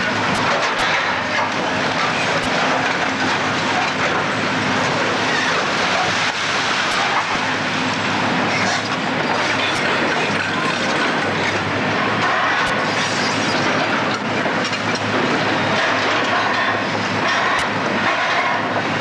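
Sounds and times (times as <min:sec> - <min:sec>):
machinery running with low hum: 0:00.0 - 0:19.0.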